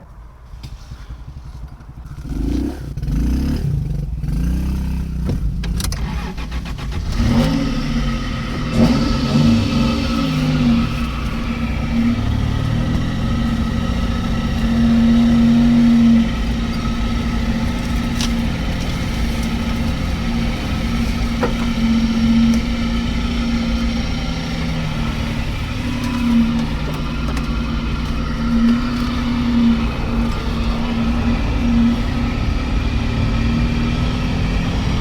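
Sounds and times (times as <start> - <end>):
vehicle engine running while driving: 0.0 - 35.0.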